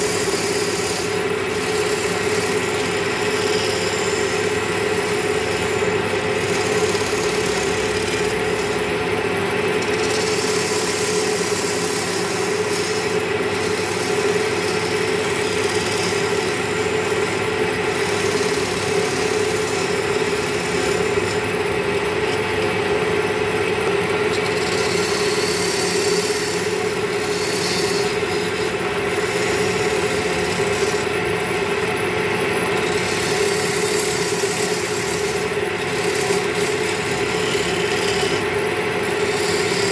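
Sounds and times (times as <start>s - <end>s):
chisel scraping spinning wood: 0.0s - 39.9s
lathe motor humming: 0.0s - 39.9s.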